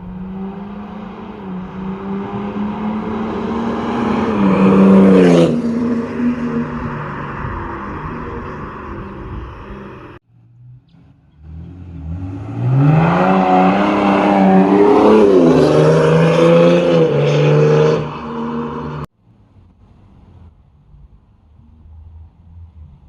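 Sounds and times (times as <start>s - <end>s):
diesel car engine revving: 0.0s - 19.1s.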